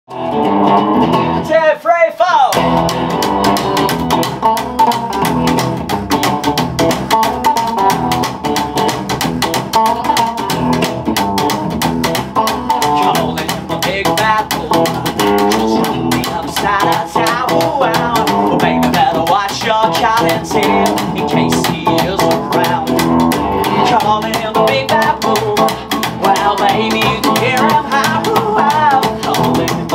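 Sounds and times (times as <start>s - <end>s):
double bass playing: 0.1s - 1.4s, 2.6s - 29.9s
electric guitar playing: 0.1s - 1.6s, 2.5s - 29.9s.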